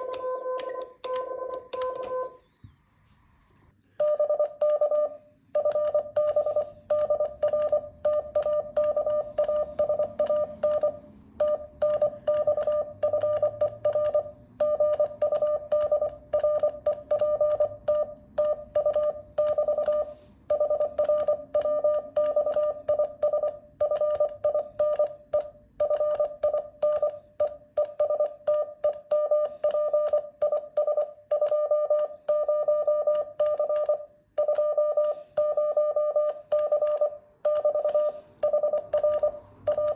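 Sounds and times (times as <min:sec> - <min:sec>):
morse code tone: 0:00.0 - 0:02.4, 0:04.0 - 0:39.9.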